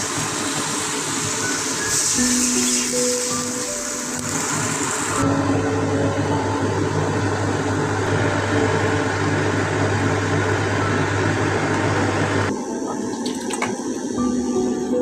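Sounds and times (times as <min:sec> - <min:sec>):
steady mechanical motor hum: 0:00.0 - 0:15.0.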